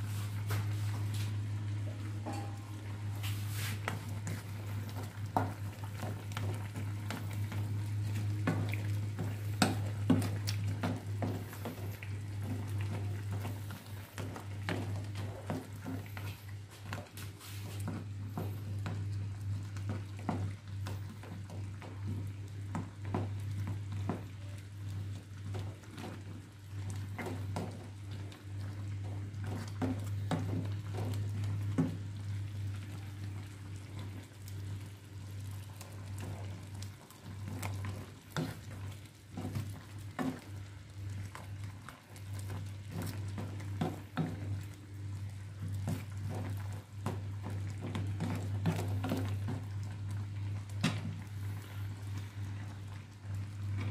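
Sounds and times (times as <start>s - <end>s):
spatula stirring food in pan: 0.0s - 53.9s.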